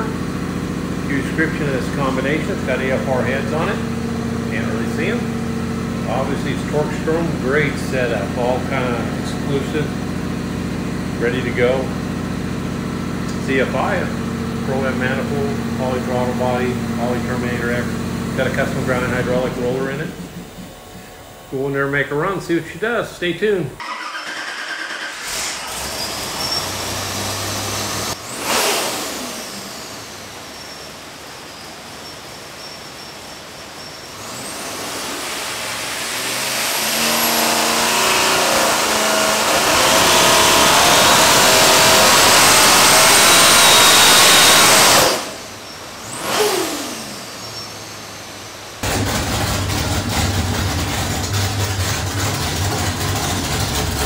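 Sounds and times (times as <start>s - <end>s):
engine revving at full throttle: 0.0s - 20.4s, 23.8s - 30.6s, 34.2s - 54.0s
engine idling: 0.0s - 22.9s, 23.7s - 30.9s, 33.8s - 54.0s
supercharger whine: 0.0s - 54.0s.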